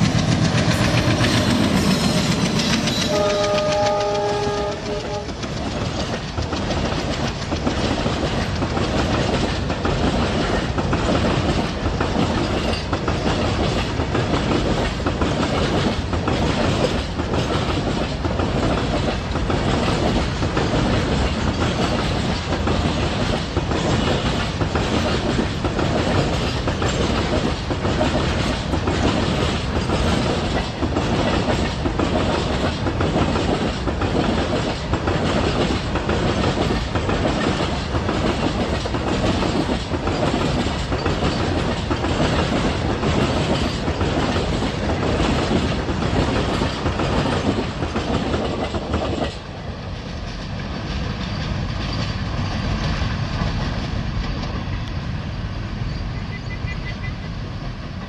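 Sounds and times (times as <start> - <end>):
train wheels clattering over rail joints: 0.0 - 55.0
receding train rumble: 0.0 - 58.0.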